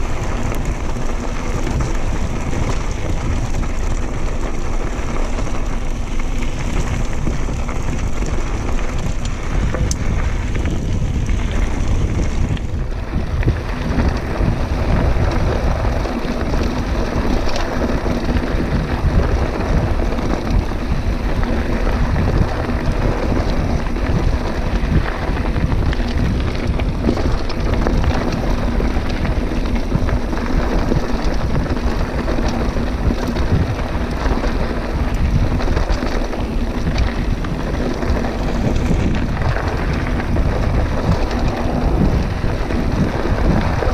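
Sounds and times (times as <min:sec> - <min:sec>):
bike tyres rolling on gravel: 0:00.0 - 0:43.9
wind buffeting microphone: 0:00.0 - 0:43.9.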